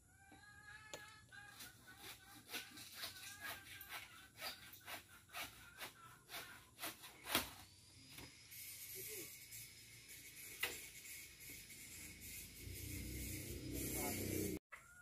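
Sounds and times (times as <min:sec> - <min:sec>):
handsaw cutting wood: 0:01.4 - 0:07.7, 0:08.7 - 0:14.6.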